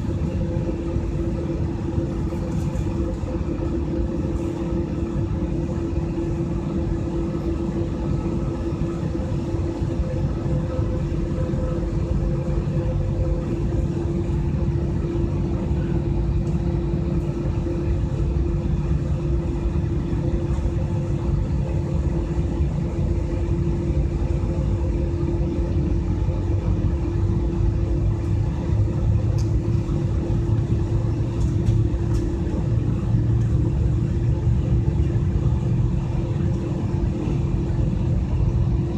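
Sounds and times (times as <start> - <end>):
heavy low rumble: 0.0 - 38.9
jet engine cabin hum: 0.0 - 38.9.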